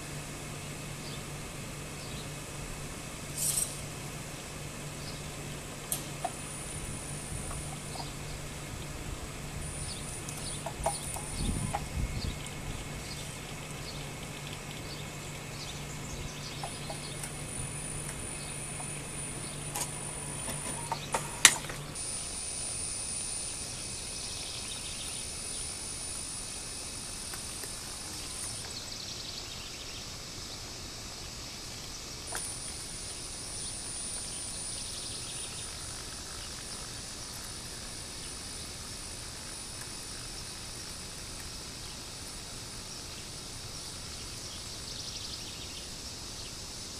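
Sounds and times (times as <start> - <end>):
insects buzzing: 0.0 - 46.9
low steady hum: 0.0 - 46.9
steady hiss: 0.0 - 46.9.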